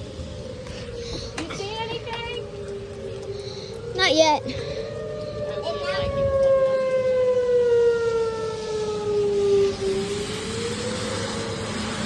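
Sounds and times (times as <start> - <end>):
tornado siren wailing: 0.0 - 12.0.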